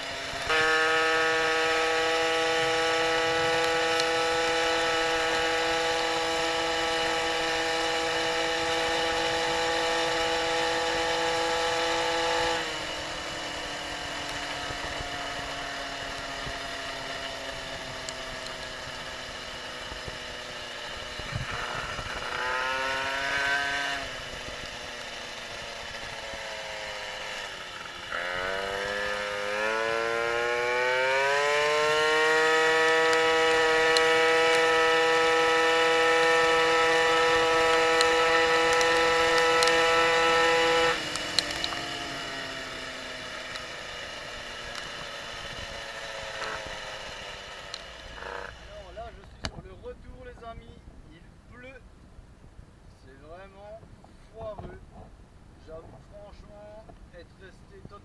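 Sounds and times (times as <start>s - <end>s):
moped two-stroke engine revving: 0.0s - 50.0s.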